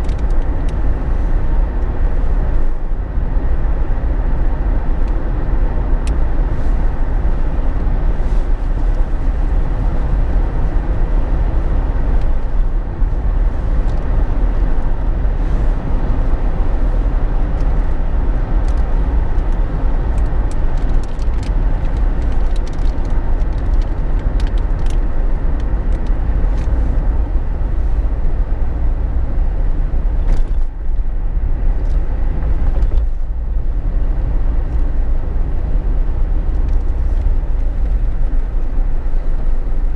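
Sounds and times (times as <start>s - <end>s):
road and engine rumble in car: 0.0s - 39.9s.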